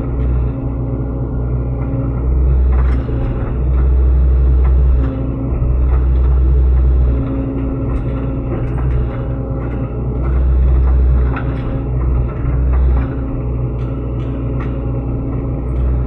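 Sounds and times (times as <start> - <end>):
excavator diesel engine running: 0.0 - 16.0
hydraulic whine: 0.0 - 16.0.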